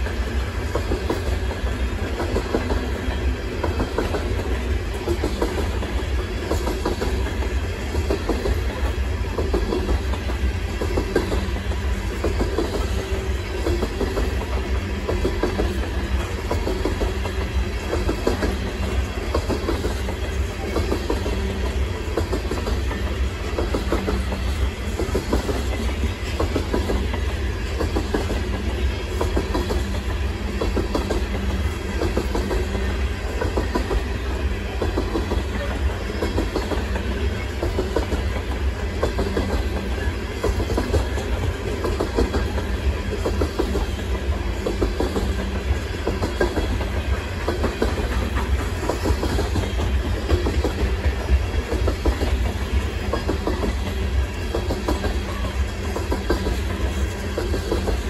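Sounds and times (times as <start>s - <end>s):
train rumble: 0.0s - 58.0s
wheels clacking over rail joints: 0.0s - 58.0s.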